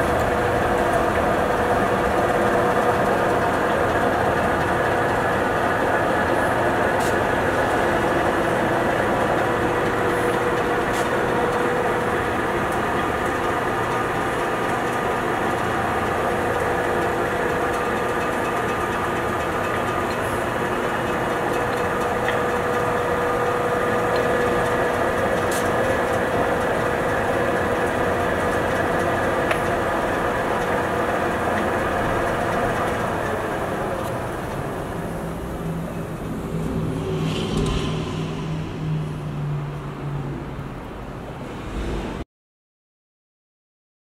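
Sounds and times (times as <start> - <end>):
lathe humming and whining: 0.0 - 41.9.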